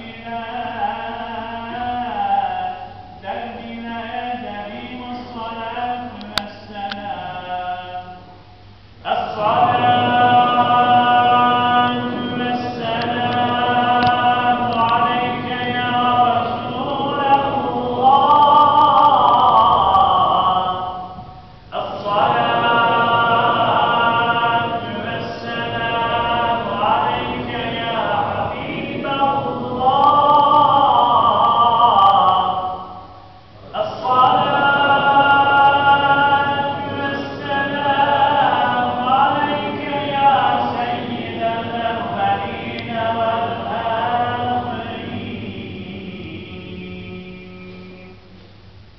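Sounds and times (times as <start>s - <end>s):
man chanting a hymn: 0.0s - 8.3s, 9.0s - 48.2s.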